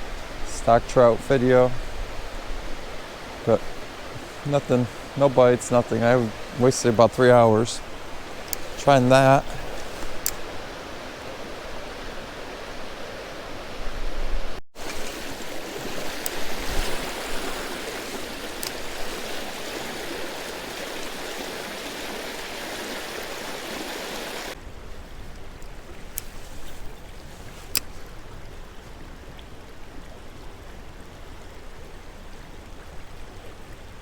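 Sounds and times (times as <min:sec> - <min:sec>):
creek water running: 0:00.0 - 0:34.0.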